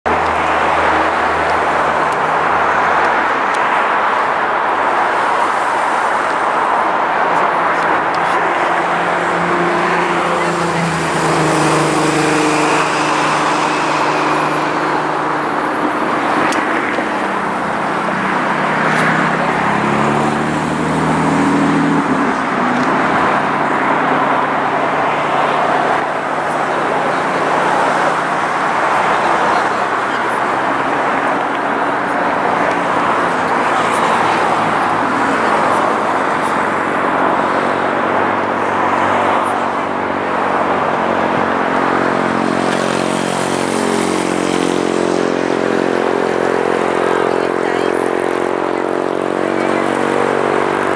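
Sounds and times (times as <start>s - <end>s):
jet engines running: 0.1s - 50.9s.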